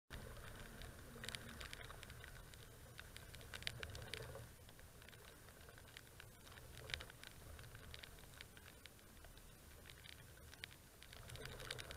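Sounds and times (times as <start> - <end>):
raindrops tapping on camera: 0.1 - 11.9.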